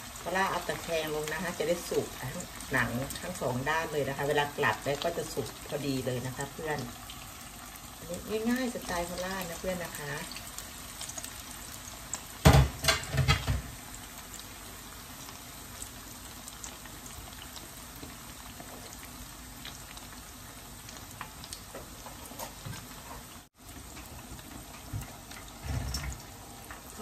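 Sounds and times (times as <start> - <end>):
fish frying in hot oil: 0.0 - 27.0.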